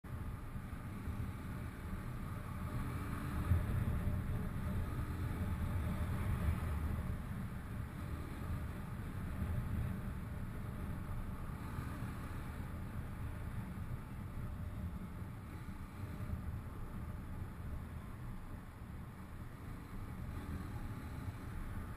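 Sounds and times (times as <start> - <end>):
wind and road noise: 0.0 - 21.9.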